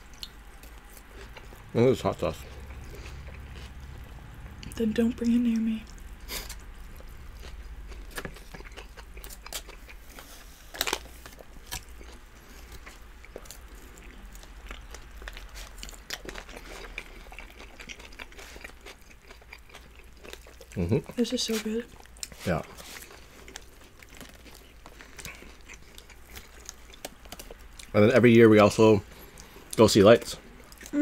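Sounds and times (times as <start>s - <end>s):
chewing and crunching food: 0.0s - 31.0s.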